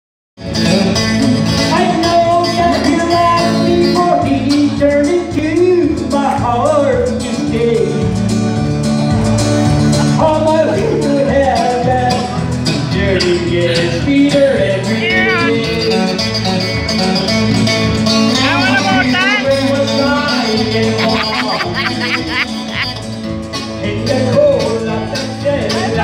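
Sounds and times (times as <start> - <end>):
live band playing gospel music: 0.4 - 26.0.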